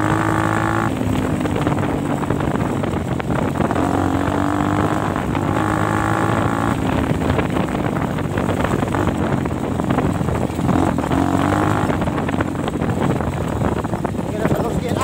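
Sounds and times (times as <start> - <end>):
dirt bike engine running: 0.0 - 15.0
rough rumbling noise: 0.0 - 15.0.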